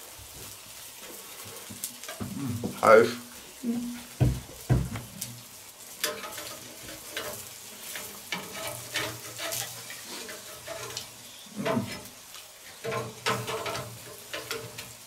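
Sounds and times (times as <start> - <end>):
food sizzling on charcoal grill: 0.0 - 15.0.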